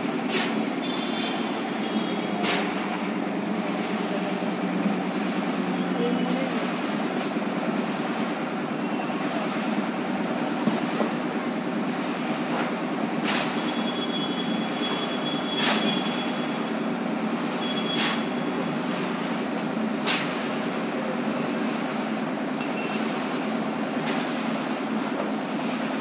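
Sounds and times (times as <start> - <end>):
engine drone: 0.0 - 26.0.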